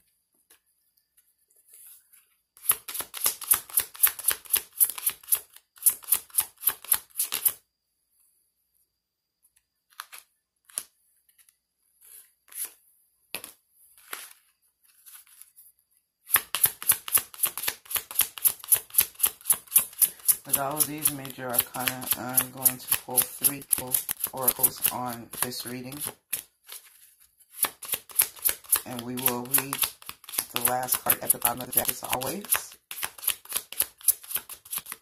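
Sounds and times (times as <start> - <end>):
cards being shuffled: 1.6 - 7.6, 9.9 - 15.5, 16.3 - 35.0.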